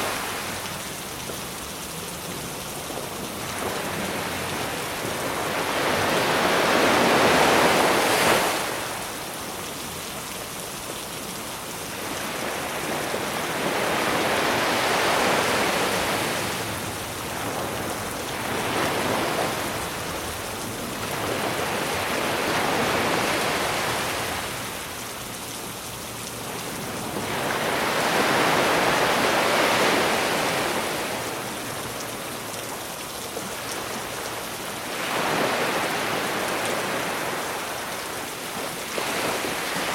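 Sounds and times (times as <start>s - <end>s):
rain hiss: 0.0s - 39.9s
sea waves breaking on shore: 0.0s - 39.9s.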